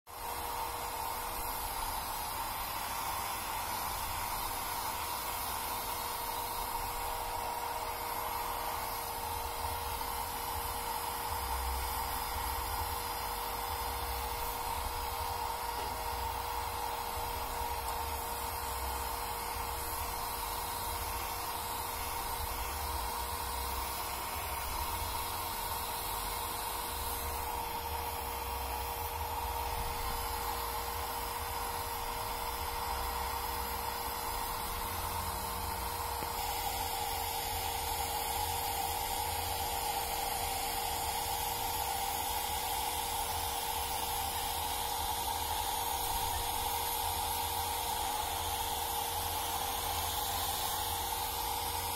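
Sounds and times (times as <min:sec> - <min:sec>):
hair dryer blowing: 0:00.0 - 0:51.9.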